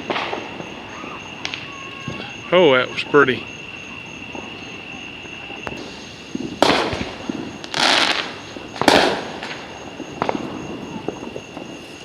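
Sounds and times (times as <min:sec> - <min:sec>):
fireworks bangs: 0:00.0 - 0:12.0
fireworks crackling burst: 0:00.0 - 0:12.0
small fireworks pops: 0:00.0 - 0:12.0.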